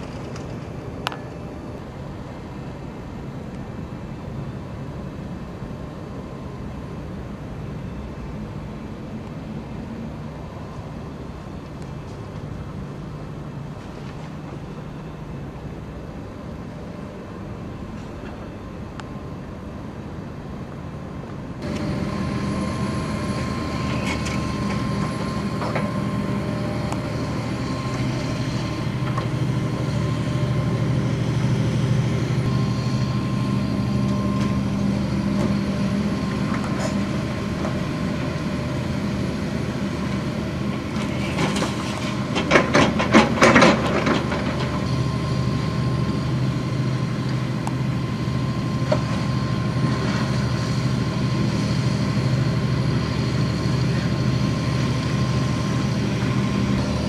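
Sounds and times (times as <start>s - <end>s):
excavator diesel engine running: 0.0s - 57.0s
high whine: 0.0s - 57.0s.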